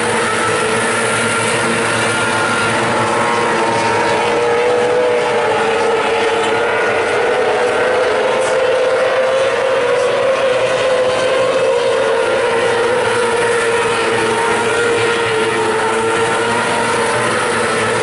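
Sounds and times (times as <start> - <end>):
racing car engines at high revs: 0.0 - 18.0.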